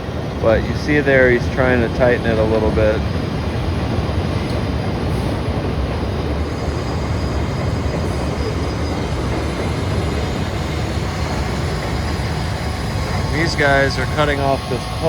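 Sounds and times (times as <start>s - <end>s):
elevated train running past: 0.0s - 15.0s.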